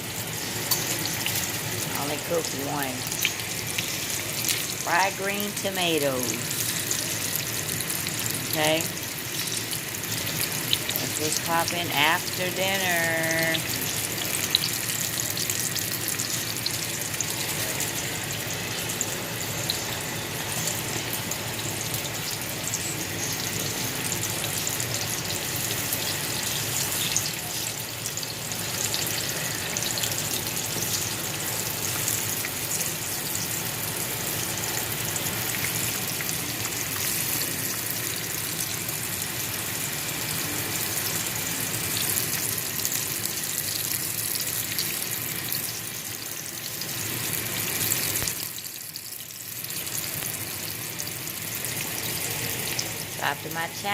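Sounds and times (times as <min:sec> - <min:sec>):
tomato slices sizzling in oil: 0:00.0 - 0:53.9.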